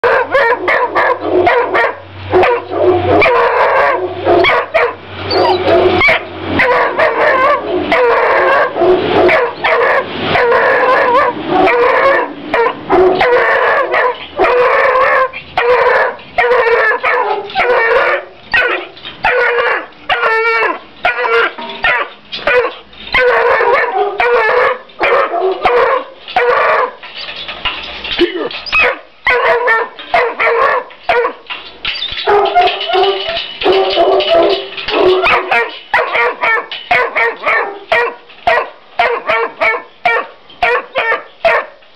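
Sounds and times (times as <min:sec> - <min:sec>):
puppy barking and baying: 0:00.0 - 0:27.0, 0:28.7 - 0:31.4, 0:32.2 - 0:41.8.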